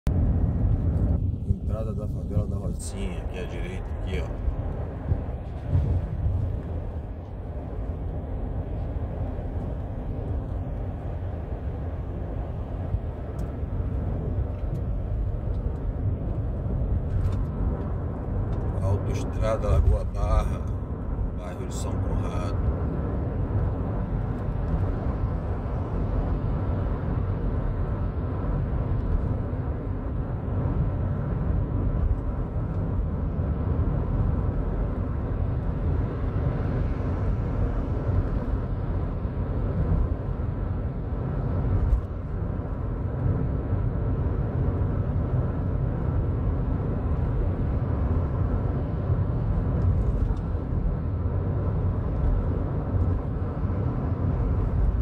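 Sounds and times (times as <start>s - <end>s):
car driving on highway: 0.0s - 55.0s.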